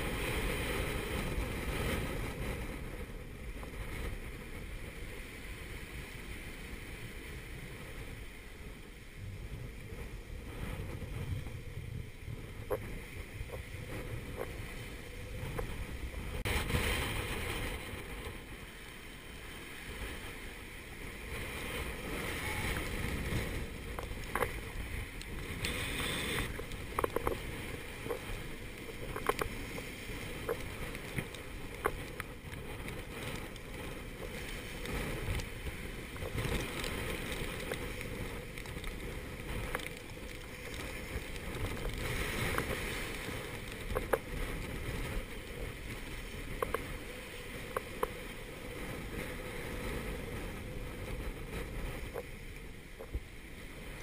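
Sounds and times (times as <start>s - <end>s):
gale wind rushing: 0.0s - 54.0s
breaking seas rushing: 9.5s - 54.0s.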